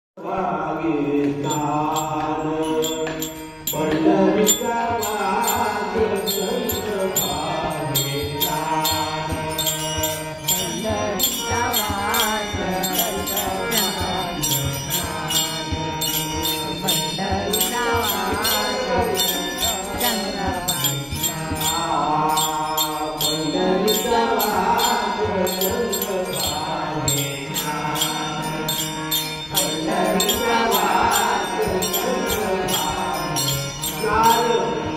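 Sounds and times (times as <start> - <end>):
elderly man singing devotional song: 0.2 - 34.9.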